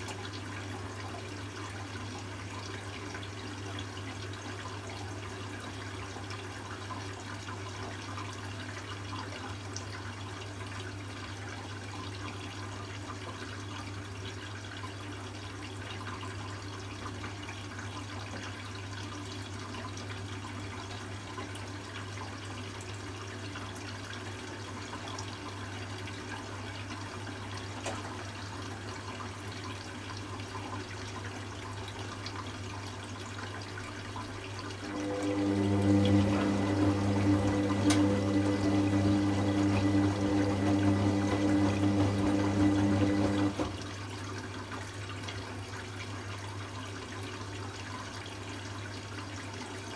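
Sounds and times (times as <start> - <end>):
water rushing into washing machine: 0.0 - 49.9.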